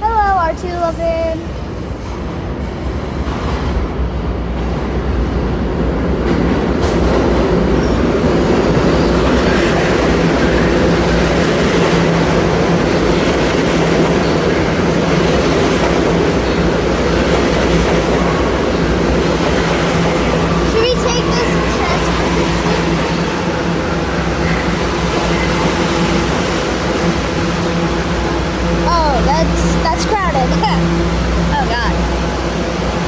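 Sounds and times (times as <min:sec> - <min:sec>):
subway train wheels rumbling: 0:00.0 - 0:33.0.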